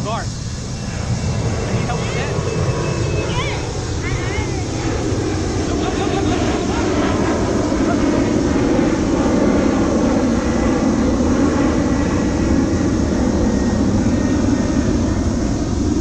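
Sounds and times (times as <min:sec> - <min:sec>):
airplane flying overhead: 0:00.0 - 0:16.0.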